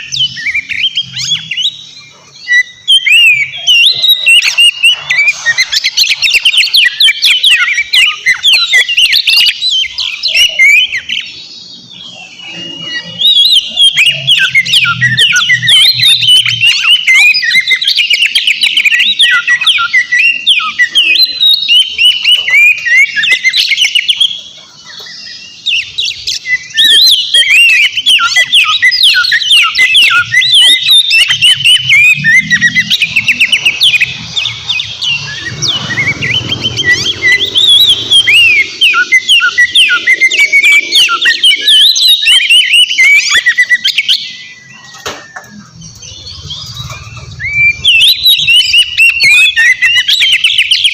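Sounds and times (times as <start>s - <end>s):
bird singing whistled song: 0.0s - 50.9s.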